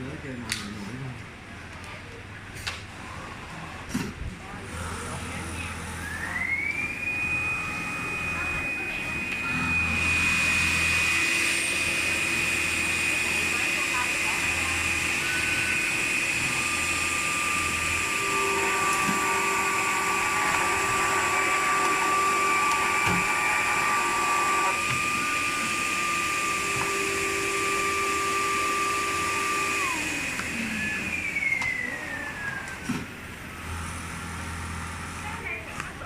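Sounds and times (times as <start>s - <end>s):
sewing machine motor whine: 4.6s - 36.0s.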